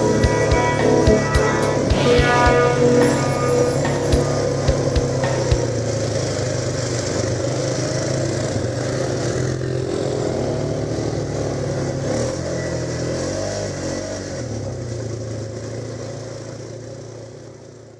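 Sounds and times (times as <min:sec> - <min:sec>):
atv engine running: 0:00.0 - 0:17.9.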